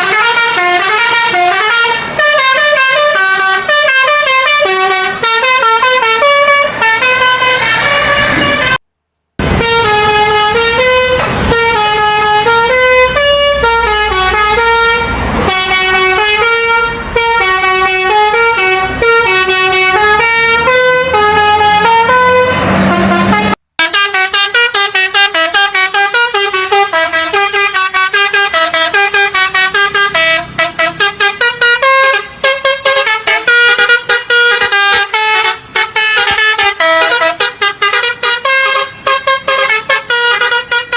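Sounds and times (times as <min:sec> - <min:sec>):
musical bus horn playing: 0:00.0 - 0:08.8, 0:09.4 - 0:40.9.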